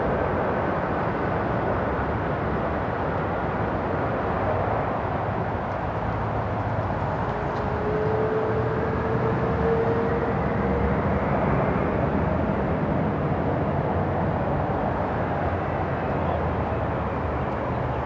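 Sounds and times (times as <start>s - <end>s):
distant jet engines rushing: 0.0s - 18.0s.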